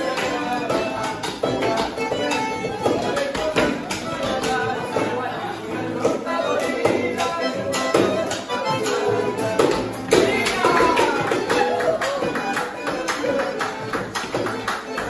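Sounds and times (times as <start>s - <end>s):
feet tapping on hard floor: 0.0s - 5.2s, 7.9s - 15.0s
acoustic guitar: 0.0s - 15.0s.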